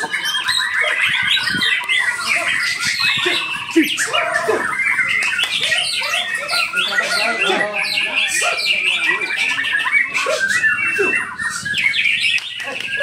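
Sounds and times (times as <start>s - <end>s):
songbird chorus of trills and whistles: 0.0s - 13.0s.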